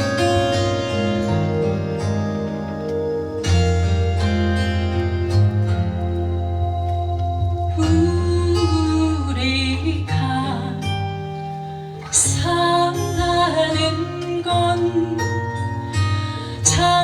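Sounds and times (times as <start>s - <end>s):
acoustic guitar: 0.0s - 17.0s
person singing slow melody: 1.2s - 17.0s.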